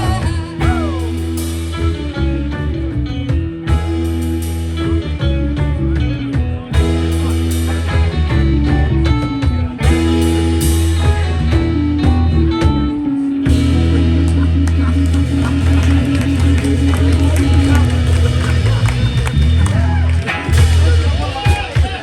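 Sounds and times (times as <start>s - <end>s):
electric guitar lines: 0.0s - 22.0s
heavy bass and drums: 0.0s - 22.0s.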